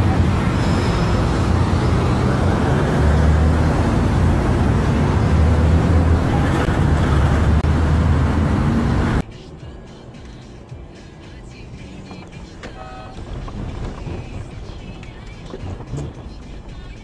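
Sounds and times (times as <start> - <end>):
quiet road hum: 0.0 - 17.0
road traffic roar: 0.0 - 17.0.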